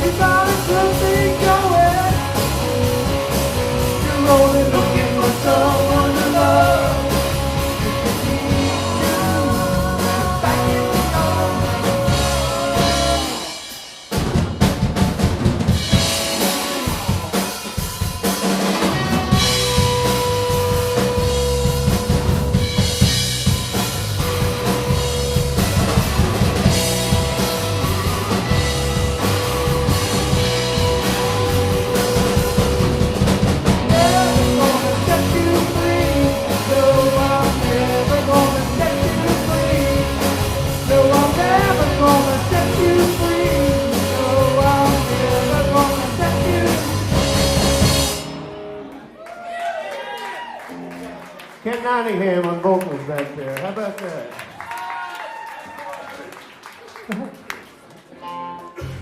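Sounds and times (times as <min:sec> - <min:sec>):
live rock band playing: 0:00.0 - 0:49.2, 0:50.7 - 0:51.3
drums: 0:00.0 - 0:49.5, 0:58.6 - 0:59.0.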